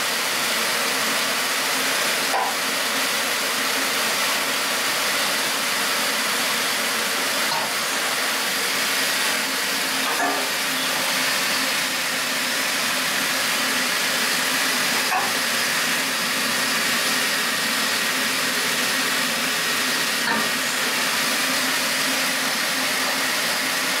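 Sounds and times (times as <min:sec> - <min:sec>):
parts washer hissing: 0:00.8 - 0:24.0.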